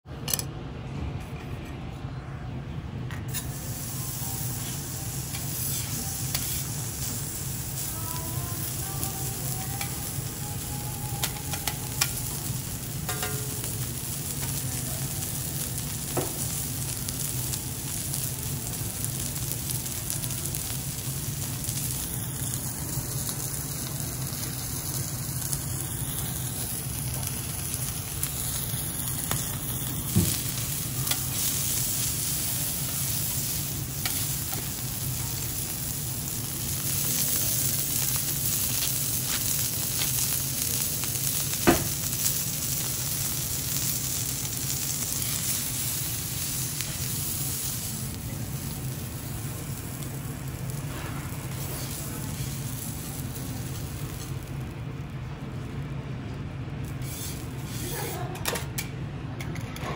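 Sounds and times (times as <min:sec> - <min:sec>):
meat sizzling on a griddle: 0:03.3 - 0:54.7, 0:56.9 - 0:58.3.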